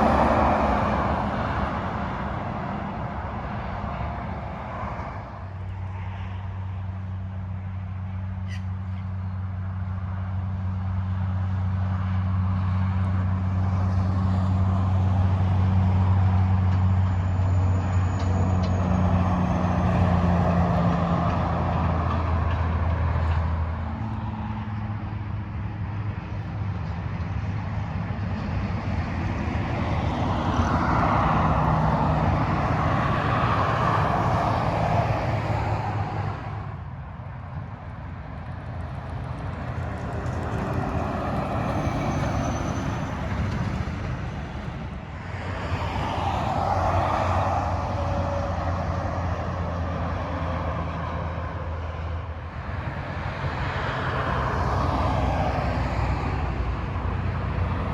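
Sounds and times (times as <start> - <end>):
freeway traffic passing: 0.0 - 57.9.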